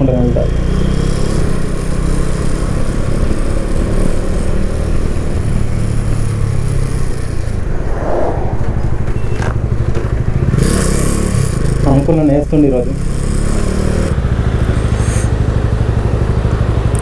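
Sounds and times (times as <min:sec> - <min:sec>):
motorcycle engine running: 0:00.0 - 0:07.7, 0:08.6 - 0:17.0
wind and road noise: 0:00.0 - 0:17.0.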